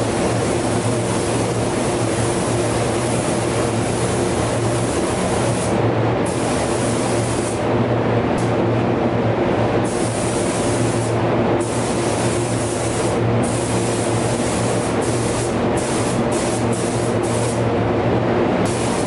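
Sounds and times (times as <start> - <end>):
spray gun hissing: 0.0 - 7.6, 9.8 - 17.6, 18.6 - 19.0
steady low hum: 0.0 - 19.0.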